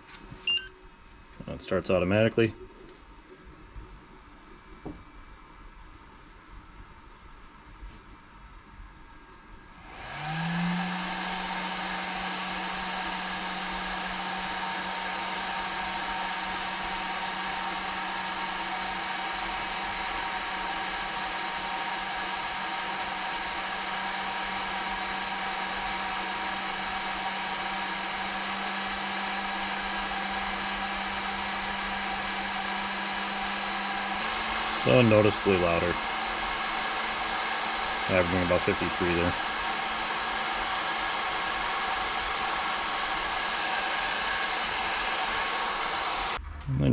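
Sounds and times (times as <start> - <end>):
cooling fans whining: 0.0 - 46.9.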